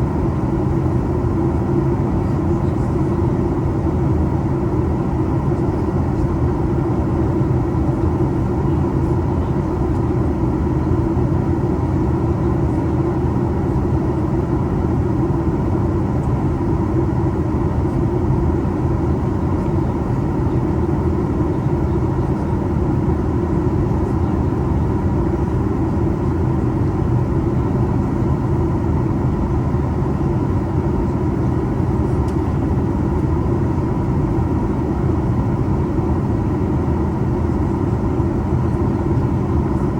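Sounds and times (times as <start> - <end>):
airplane engine drone in flight: 0.0 - 39.9.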